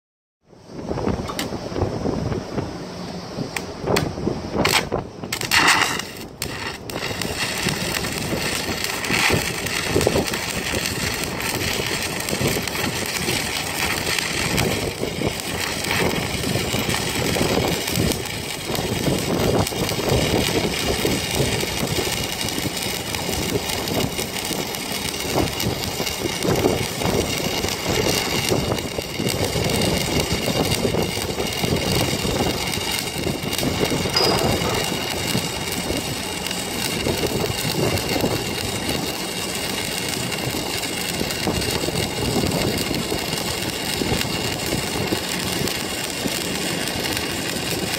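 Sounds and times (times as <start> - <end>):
welding arc crackling: 3.6 - 47.9.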